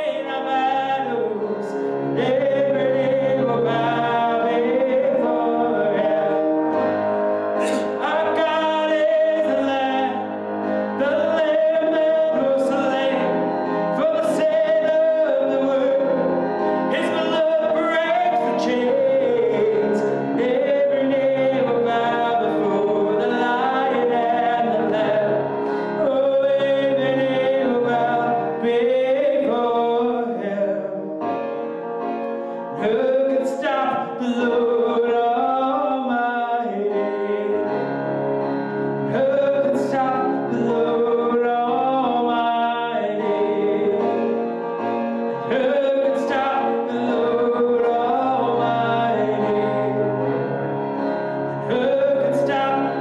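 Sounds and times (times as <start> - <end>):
person singing long notes: 0.0 - 31.7, 32.4 - 53.0
band playing worship music: 0.0 - 53.0.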